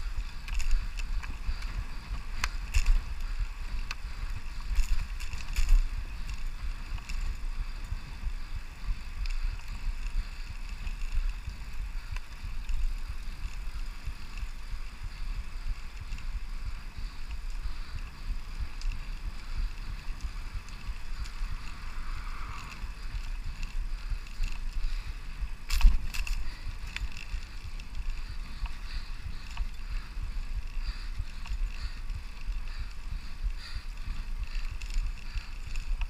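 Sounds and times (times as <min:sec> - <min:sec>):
bicycle tyres rolling on pavement: 0:00.0 - 0:36.0
wind on the microphone: 0:00.0 - 0:36.0.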